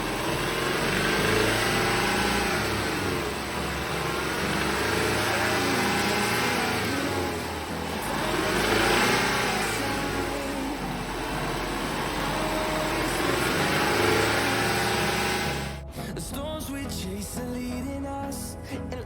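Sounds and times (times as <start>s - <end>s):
car engine revving: 0.0s - 15.9s
engine rattle: 0.0s - 16.6s.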